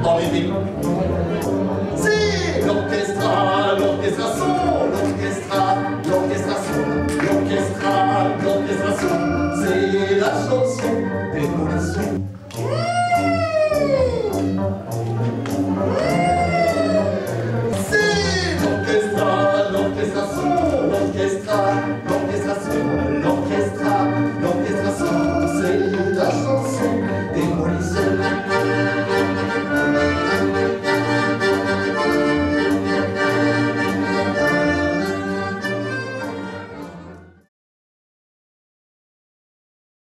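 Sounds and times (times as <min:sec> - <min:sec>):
accordion-led music with beat: 0:00.0 - 0:37.5.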